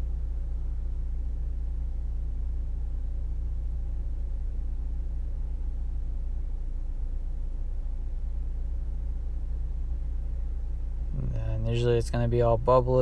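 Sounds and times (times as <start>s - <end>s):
low bass hum: 0.0s - 13.0s.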